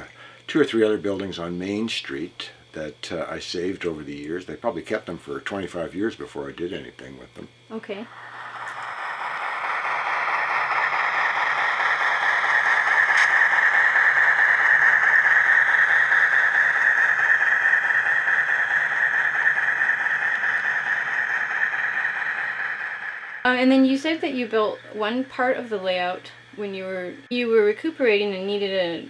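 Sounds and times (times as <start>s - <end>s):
model train whirring on track: 0.0s - 29.0s.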